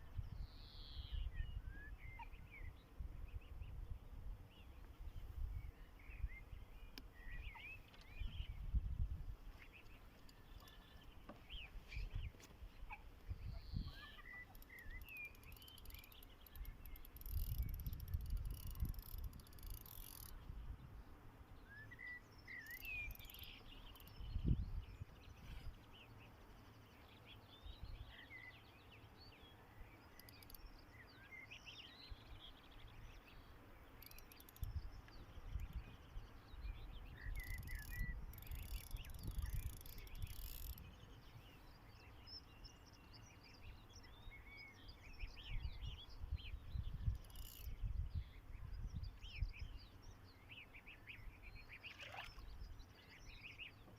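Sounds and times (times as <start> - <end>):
birds chirping: 4.5 - 53.9.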